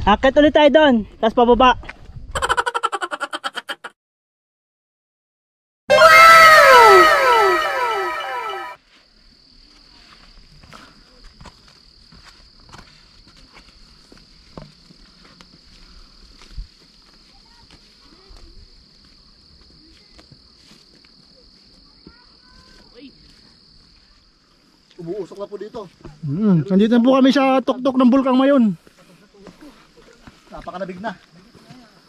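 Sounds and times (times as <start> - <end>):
insects droning: 6.2 - 32.0.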